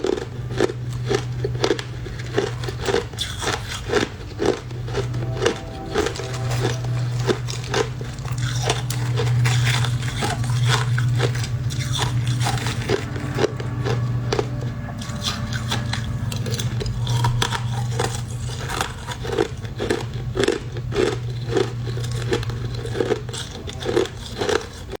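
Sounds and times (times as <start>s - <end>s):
crushed ice being chewed: 0.0s - 25.0s
steady low hum: 0.0s - 25.0s.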